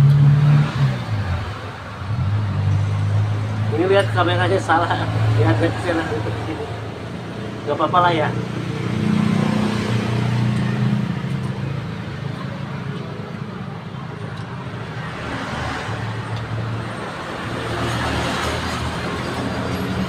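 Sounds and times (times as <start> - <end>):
vehicle passing by: 0.0 - 12.4, 14.8 - 20.0
road traffic rumble: 0.0 - 20.0.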